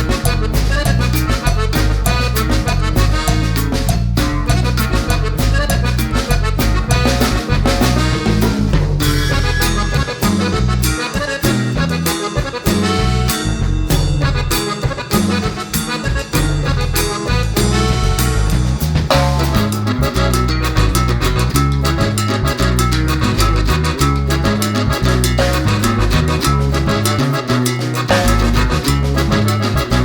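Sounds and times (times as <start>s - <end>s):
latin dance music with accordion: 0.0s - 30.0s.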